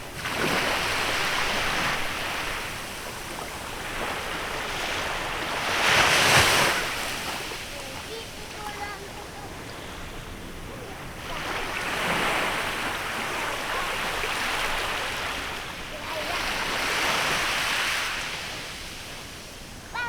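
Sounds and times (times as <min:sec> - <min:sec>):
small waves breaking on beach: 0:00.0 - 0:20.0.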